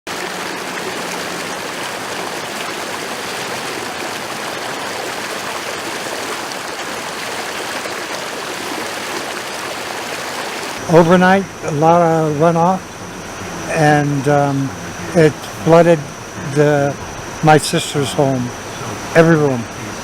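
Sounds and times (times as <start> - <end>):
rushing floodwater: 0.1 - 20.0.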